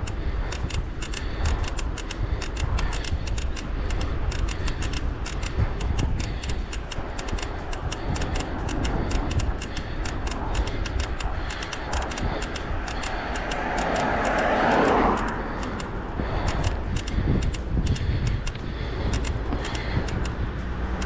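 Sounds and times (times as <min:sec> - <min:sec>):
bicycle tyres on asphalt: 0:00.0 - 0:21.0
car passing: 0:00.0 - 0:21.0
light ticking: 0:00.0 - 0:21.0
wind rumble on microphone: 0:00.0 - 0:21.0.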